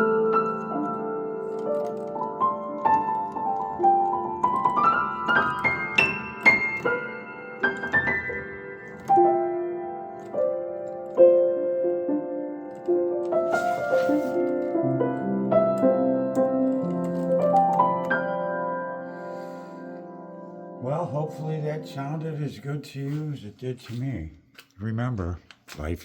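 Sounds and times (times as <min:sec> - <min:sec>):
grand piano playing: 0:00.0 - 0:23.0.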